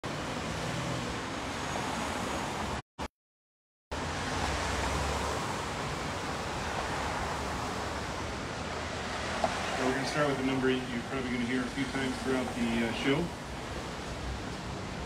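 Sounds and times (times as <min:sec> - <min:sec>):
outdoor street noise: 0:00.0 - 0:02.8, 0:03.9 - 0:15.0.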